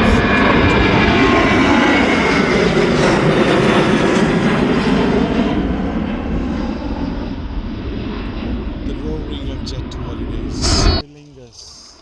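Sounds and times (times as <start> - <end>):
airliner engines: 0.0 - 12.0.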